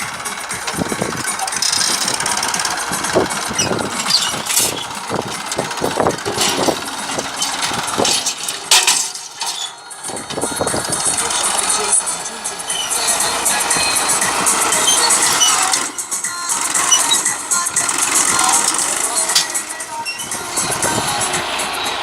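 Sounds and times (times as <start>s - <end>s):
sharp clatters: 0.0s - 21.5s
tractor diesel engine running: 0.0s - 22.0s.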